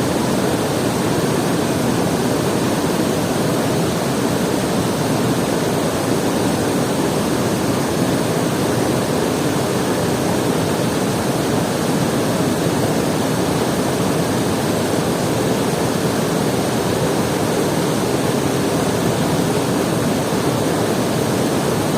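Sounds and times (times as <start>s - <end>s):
rushing running water: 0.0s - 21.9s.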